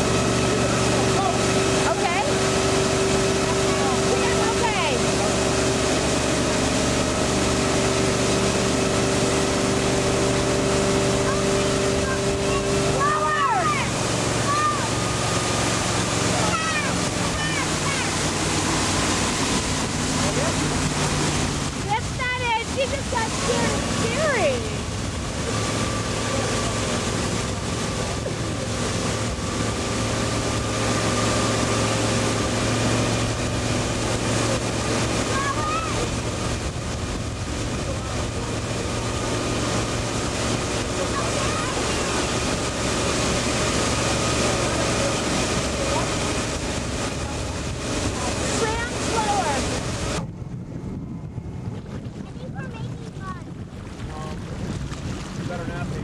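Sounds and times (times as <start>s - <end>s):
motorboat engine running: 0.0s - 56.0s
rush of boat wake: 0.0s - 56.0s
wind buffeting microphone: 0.0s - 56.0s.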